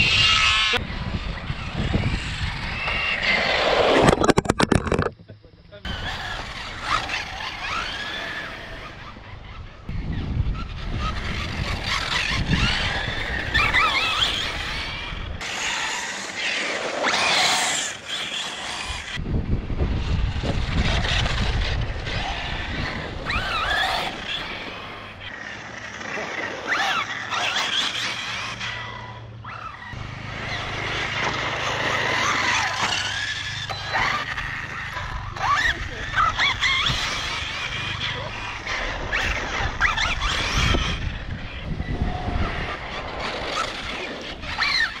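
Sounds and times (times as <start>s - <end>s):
rc car motors whining: 0.0s - 45.0s.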